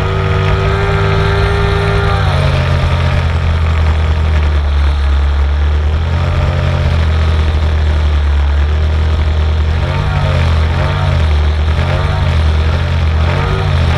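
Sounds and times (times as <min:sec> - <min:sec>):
racing boat engine: 0:00.0 - 0:13.9.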